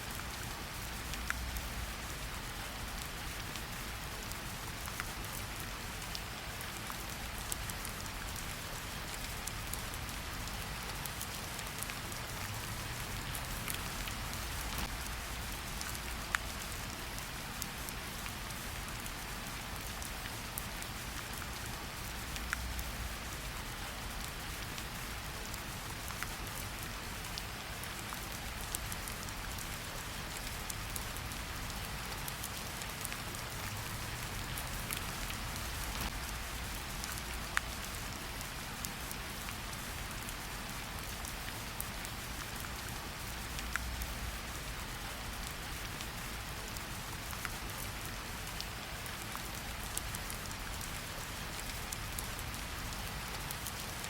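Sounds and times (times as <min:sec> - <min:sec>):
rain hissing in forest: 0:00.0 - 0:54.0
close raindrops ticking: 0:00.1 - 0:54.0.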